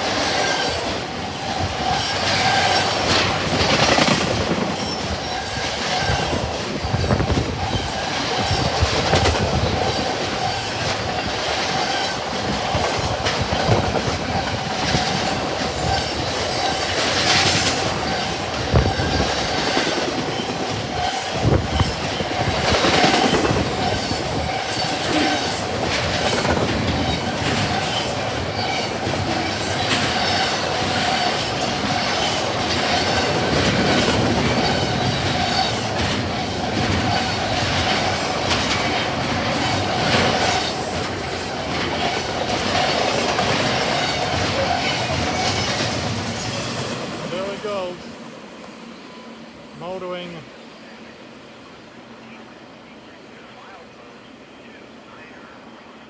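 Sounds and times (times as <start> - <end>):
train wheels clattering over joints: 0.0 - 48.2.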